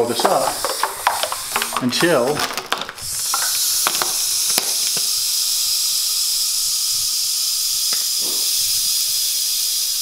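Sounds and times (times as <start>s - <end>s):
gas hissing into balloon: 0.0s - 10.0s.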